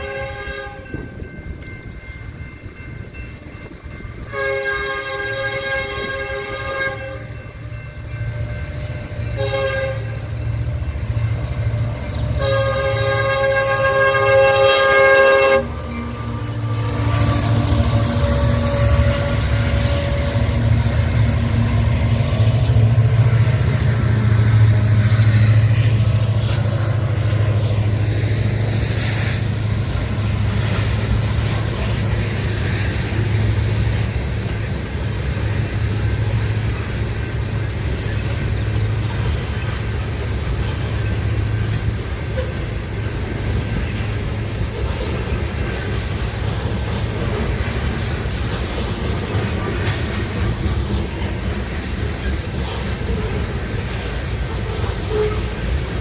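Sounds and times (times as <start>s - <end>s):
train passing rumble: 0.0s - 56.0s.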